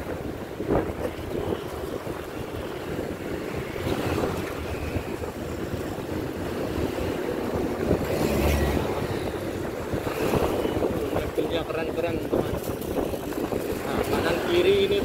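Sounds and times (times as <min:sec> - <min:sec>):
motorcycles and cars passing: 0:00.0 - 0:15.0
road traffic: 0:00.0 - 0:15.0
wind rushing over microphone: 0:00.0 - 0:15.0.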